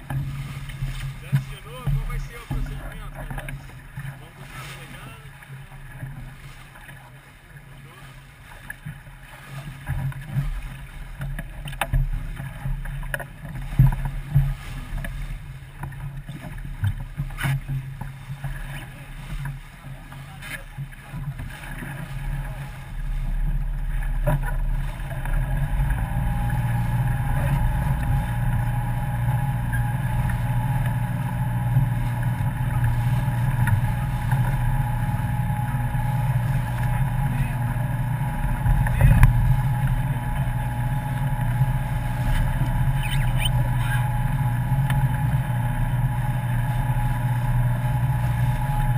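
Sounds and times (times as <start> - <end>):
boat engine hum: 0.0 - 48.9
water and wind noise: 0.0 - 48.9.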